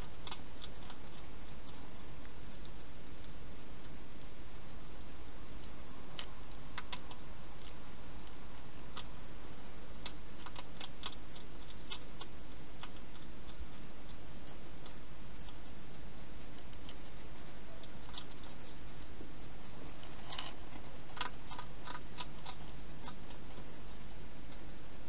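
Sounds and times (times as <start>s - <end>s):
hedgehog crunching food: 0.0s - 24.8s.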